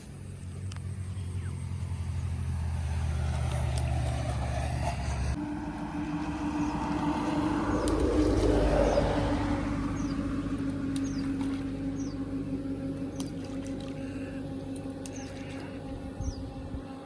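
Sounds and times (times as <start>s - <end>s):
passing vehicle hum: 0.0s - 17.0s.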